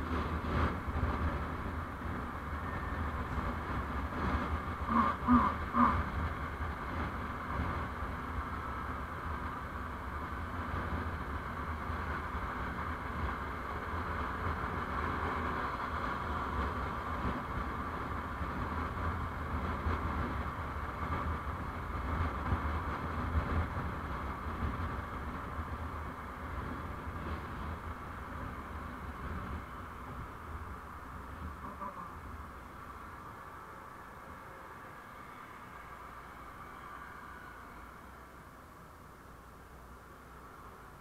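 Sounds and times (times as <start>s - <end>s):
vehicle rumble and road noise: 0.0s - 41.0s.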